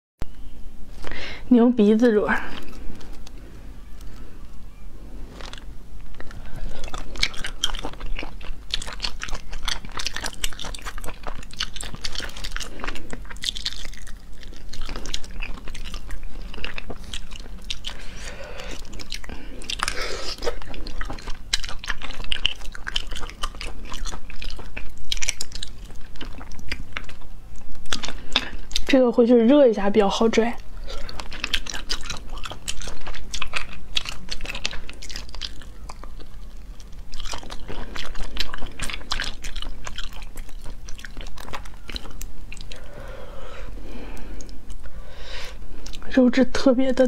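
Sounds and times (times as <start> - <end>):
person chewing with mouth smacks: 2.4 - 29.0, 30.6 - 46.1.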